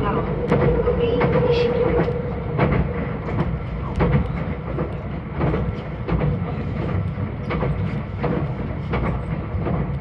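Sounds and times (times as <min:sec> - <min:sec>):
electric train running: 0:00.0 - 0:10.0
wheels clicking over rail joints: 0:00.3 - 0:10.0.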